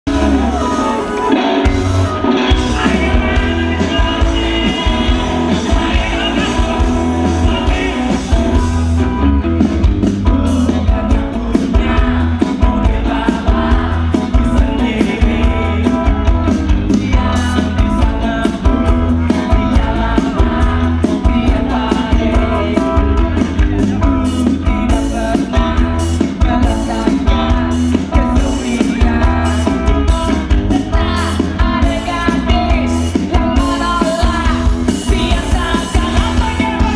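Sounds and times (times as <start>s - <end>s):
live rock band playing: 0.0s - 36.9s
person singing: 0.1s - 9.2s, 10.1s - 36.9s.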